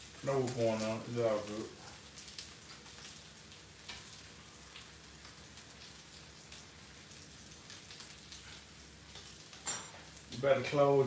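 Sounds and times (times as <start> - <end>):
fat crackling and popping: 0.0 - 10.9
meat sizzling on a grill plate: 0.0 - 11.0.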